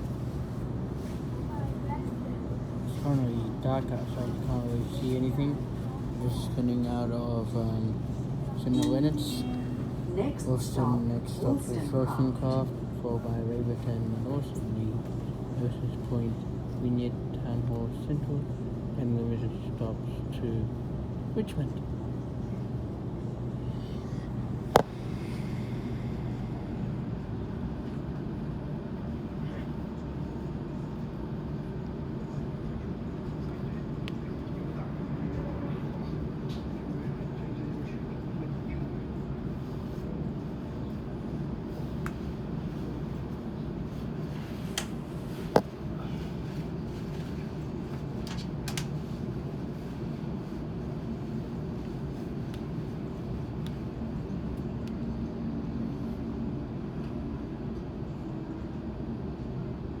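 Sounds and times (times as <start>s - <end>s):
train low rumble inside carriage: 0.0s - 60.0s.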